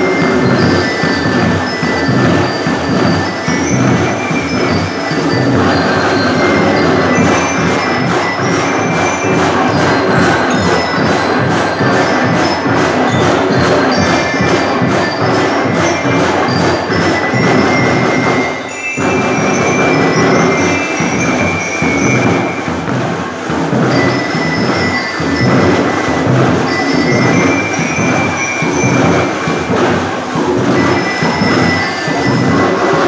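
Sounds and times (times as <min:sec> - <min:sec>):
bell lyre melody: 0:00.0 - 0:33.0
snare and bass drums: 0:00.0 - 0:33.0.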